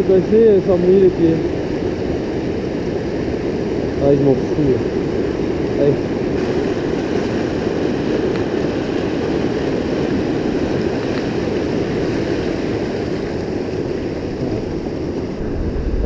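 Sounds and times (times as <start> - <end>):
rushing white water: 0.0 - 16.0.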